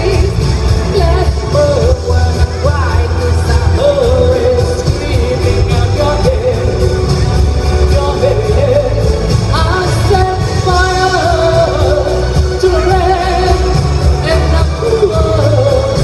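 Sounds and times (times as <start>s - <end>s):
person singing: 0.0s - 16.0s
pop backing music with bass: 0.0s - 16.0s.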